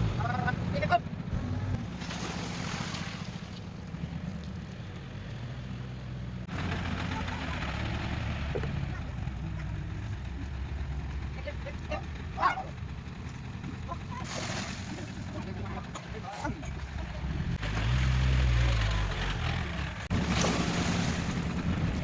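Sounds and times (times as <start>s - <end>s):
vehicle engine running: 0.0s - 2.1s, 3.3s - 22.0s.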